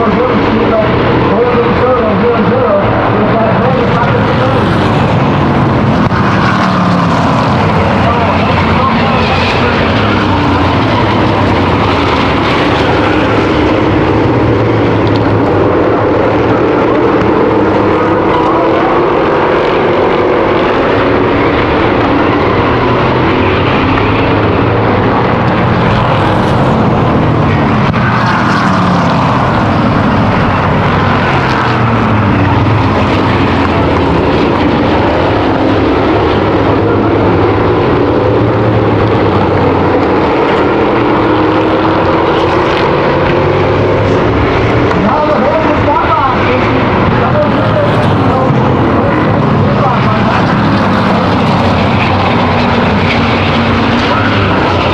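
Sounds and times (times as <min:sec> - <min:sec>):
race car engines roaring: 0:00.0 - 0:54.9.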